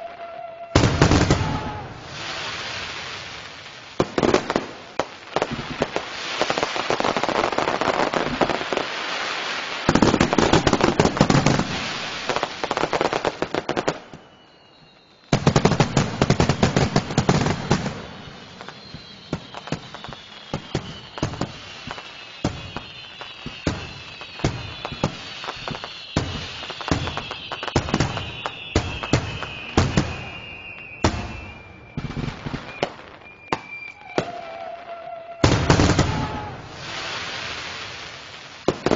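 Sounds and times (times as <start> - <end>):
fireworks crackling and banging: 0.0 - 38.9
fireworks whistling down: 0.0 - 38.9.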